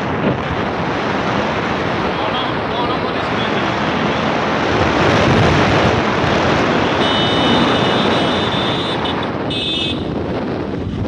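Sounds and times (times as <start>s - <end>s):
motorcycle engine: 0.0s - 11.0s
wind rushing over microphone: 0.0s - 11.0s.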